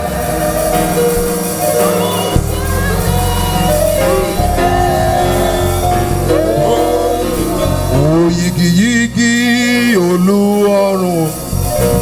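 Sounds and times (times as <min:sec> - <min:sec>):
bass: 0:00.0 - 0:12.0
keyboard chords: 0:00.0 - 0:12.0
sung praise song: 0:00.0 - 0:12.0
person singing praise: 0:01.8 - 0:11.5.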